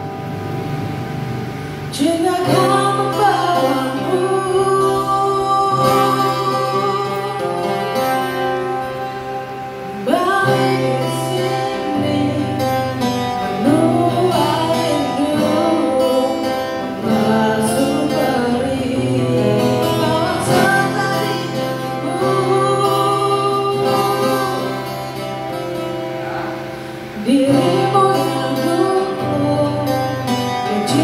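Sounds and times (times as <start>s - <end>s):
acoustic guitar: 0.0s - 31.0s
person singing amplified: 1.8s - 31.0s.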